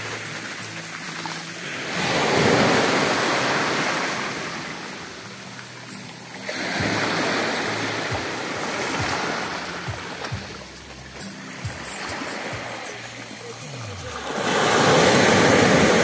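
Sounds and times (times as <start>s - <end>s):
waves washing over pebble shore: 0.0s - 16.0s.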